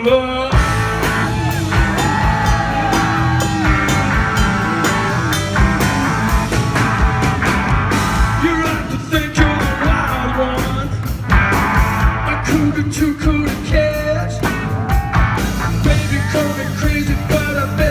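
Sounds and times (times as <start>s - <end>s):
live rock band playing: 0.0s - 17.9s
drums beating: 0.5s - 17.9s.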